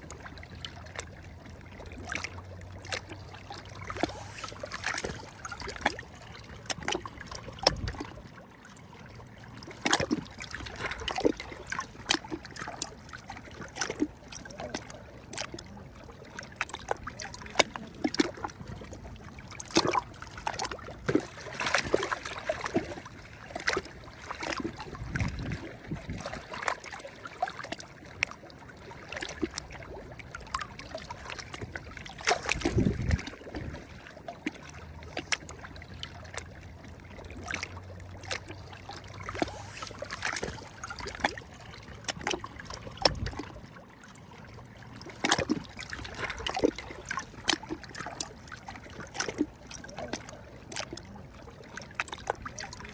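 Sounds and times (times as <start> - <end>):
small sea waves lapping: 0.0 - 52.9.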